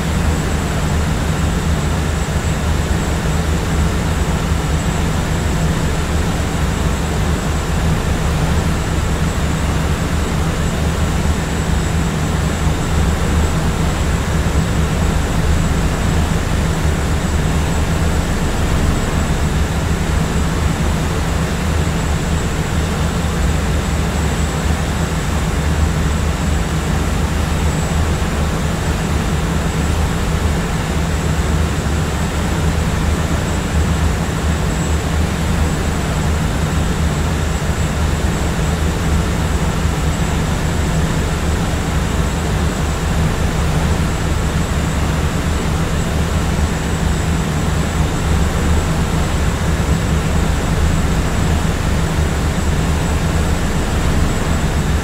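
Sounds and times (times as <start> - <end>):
jet engine and airflow hum: 0.0 - 55.0.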